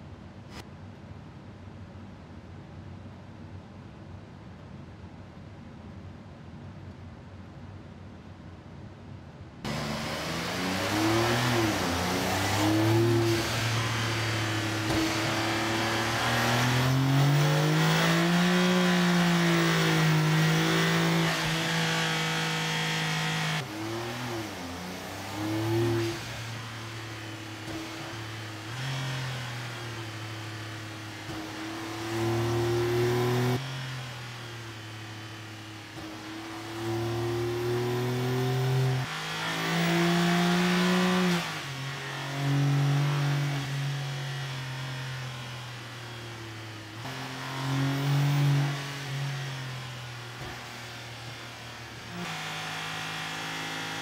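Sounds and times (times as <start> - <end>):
turbocharged car engine revving: 9.6 - 54.0.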